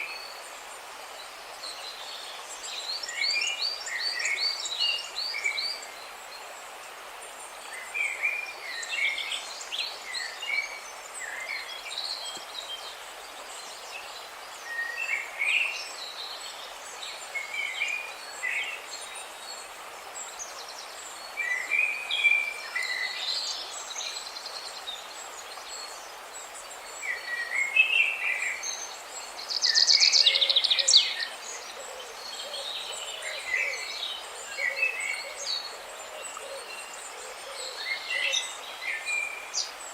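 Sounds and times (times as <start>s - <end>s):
running water hiss: 0.0s - 39.9s
songbirds chirping: 0.0s - 39.9s.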